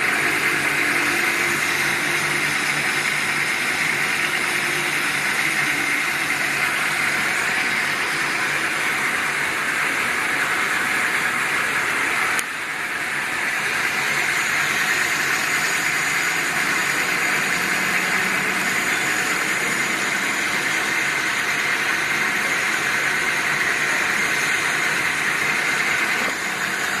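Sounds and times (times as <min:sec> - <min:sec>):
lathe running: 0:00.0 - 0:27.0.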